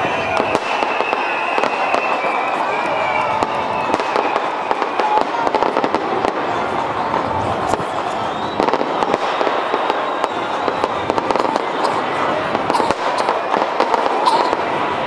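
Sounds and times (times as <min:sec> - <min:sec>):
fireworks bangs and crackles: 0:00.0 - 0:15.0
large crowd noise: 0:00.0 - 0:15.0.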